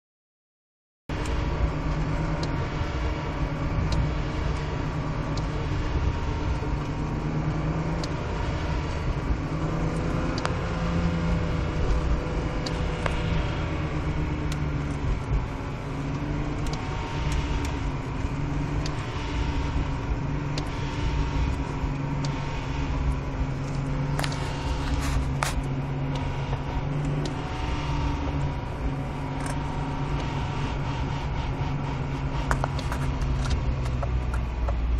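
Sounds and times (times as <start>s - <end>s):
car engine running: 1.1s - 34.9s
thin whine: 1.1s - 34.9s.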